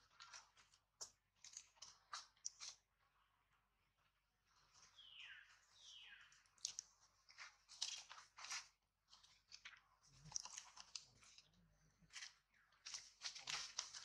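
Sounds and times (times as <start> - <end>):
dry crunching and crackling: 0.0 - 2.8, 4.6 - 14.0.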